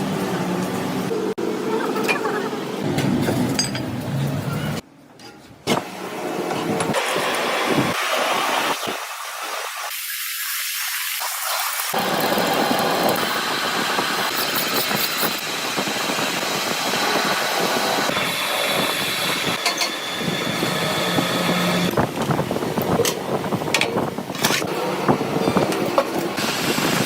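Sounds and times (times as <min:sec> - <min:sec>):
workshop machinery running: 0:00.0 - 0:04.8, 0:05.6 - 0:27.0.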